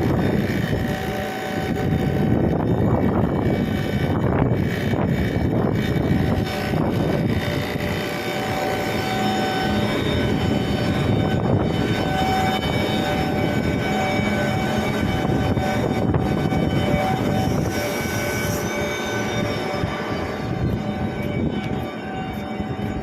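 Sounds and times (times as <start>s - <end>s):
faint steady tones: 0.0s - 23.0s
machinery drone: 0.0s - 23.0s.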